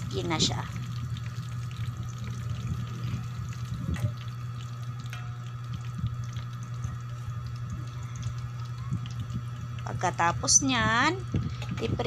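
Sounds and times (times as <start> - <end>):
low hum: 0.0 - 12.0
meat sizzling in hot oil: 0.0 - 12.0
oil popping and crackling: 0.0 - 12.0.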